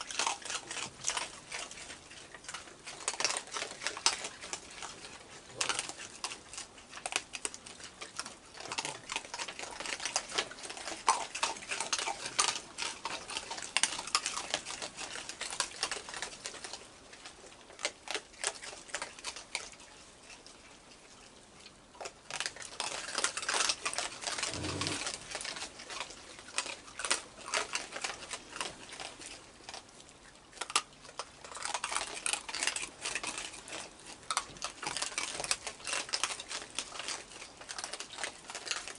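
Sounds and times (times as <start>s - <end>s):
raccoons crunching dry food: 0.0s - 38.9s.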